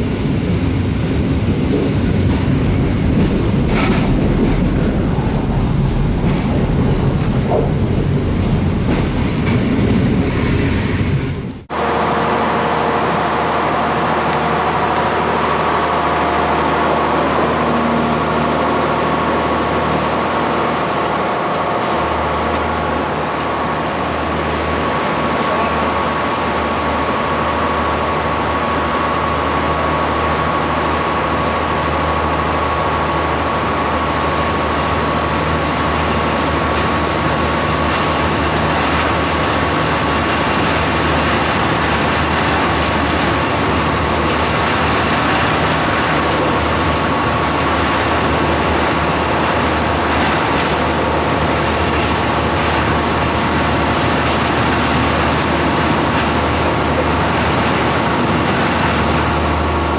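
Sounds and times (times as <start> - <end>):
train rumble and wheel noise: 0.0 - 59.9.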